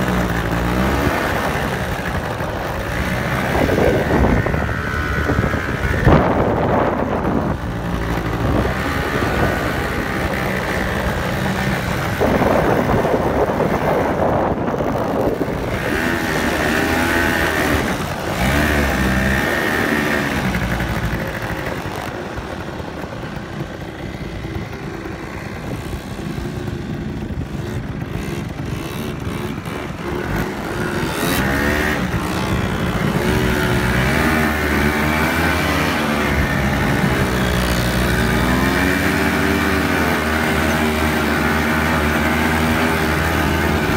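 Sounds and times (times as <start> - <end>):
quad bike engines revving: 0.0 - 43.9.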